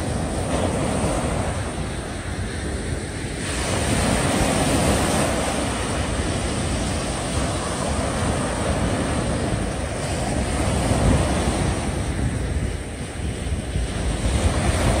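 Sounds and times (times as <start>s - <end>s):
sea waves: 0.0s - 15.0s
wind buffeting microphone: 0.0s - 15.0s.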